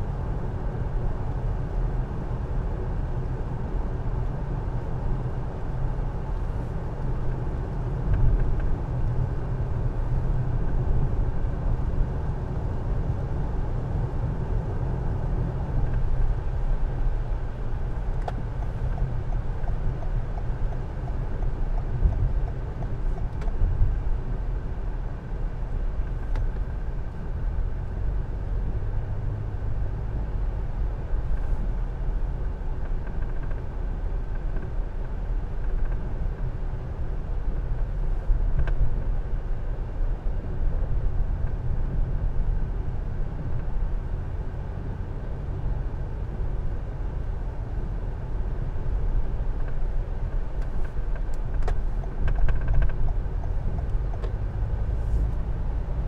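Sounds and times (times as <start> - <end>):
car road noise on wet road: 0.0 - 56.0.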